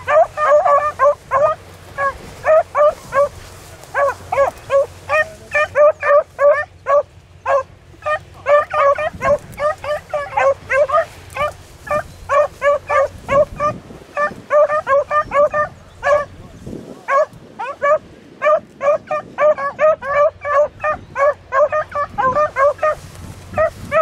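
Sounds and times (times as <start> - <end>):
beagles baying: 0.0 - 16.4, 17.1 - 24.0.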